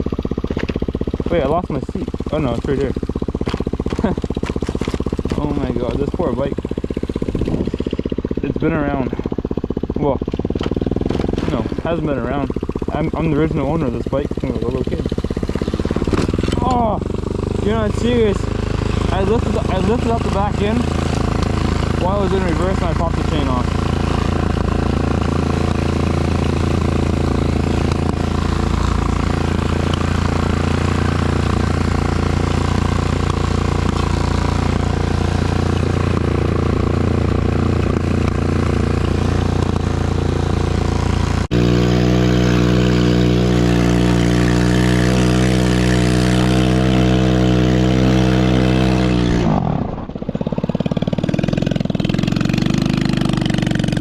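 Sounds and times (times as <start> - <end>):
small atv engine running: 0.0 - 54.0.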